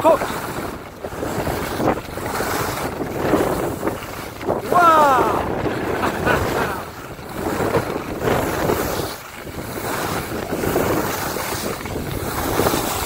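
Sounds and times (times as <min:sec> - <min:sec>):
skis scraping on packed snow: 0:00.0 - 0:13.0
wind rushing over microphone: 0:00.0 - 0:13.0.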